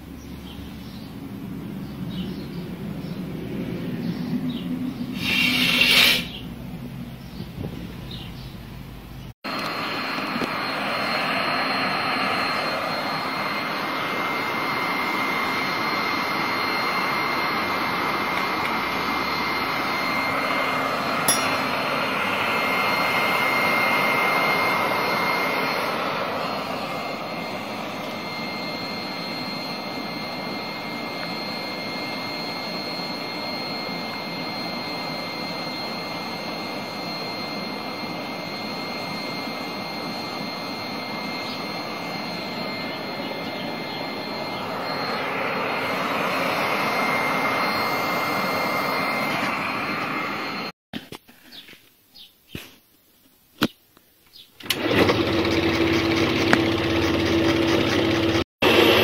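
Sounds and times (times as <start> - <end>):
electric blower rushing air: 1.4 - 7.0, 9.5 - 50.8, 54.6 - 59.0.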